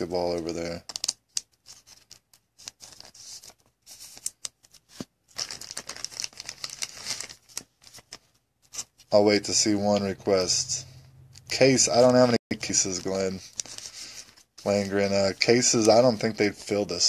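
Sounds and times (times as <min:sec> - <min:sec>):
cards rustling: 0:00.1 - 0:17.0.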